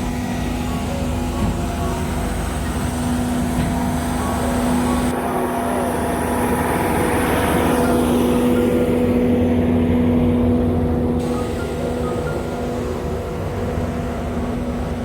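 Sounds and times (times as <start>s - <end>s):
road-work machinery engine hum: 0.0s - 15.0s.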